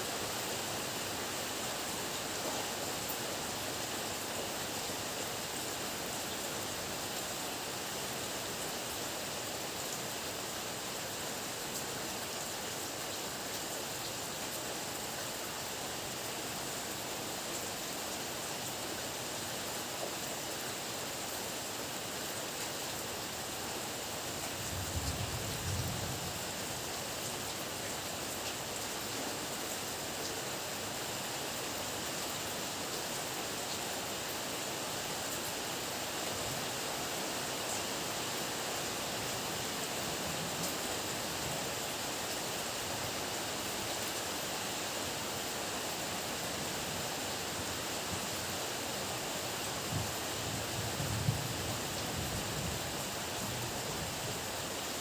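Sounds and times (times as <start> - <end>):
heavy rain: 0.1 - 55.0.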